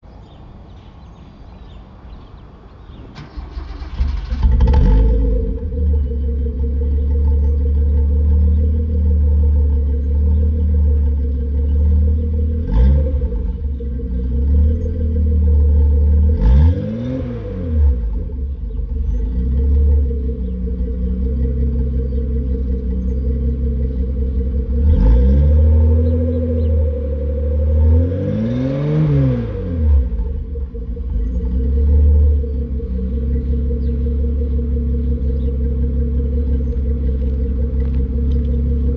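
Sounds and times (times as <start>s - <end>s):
car engine idling: 2.8s - 38.9s
engine revving: 3.1s - 38.9s.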